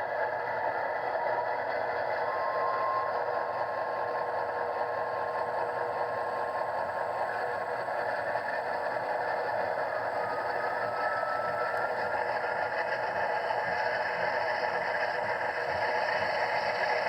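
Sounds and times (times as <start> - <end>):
diesel locomotive sound through small speaker: 0.0 - 17.0.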